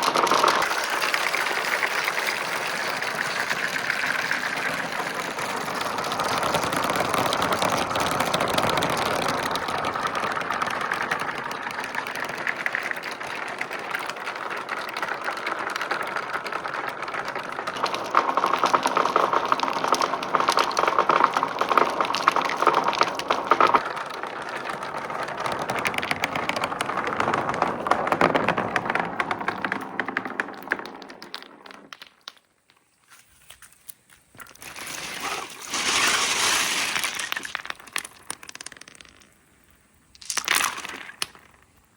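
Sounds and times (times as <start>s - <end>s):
glass marbles rolling and clattering: 0.0s - 33.0s, 34.3s - 41.8s.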